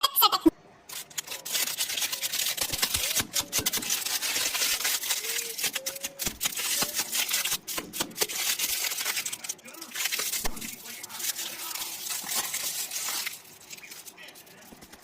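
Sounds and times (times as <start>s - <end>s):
plastic wrappers crinkling: 0.9s - 15.0s.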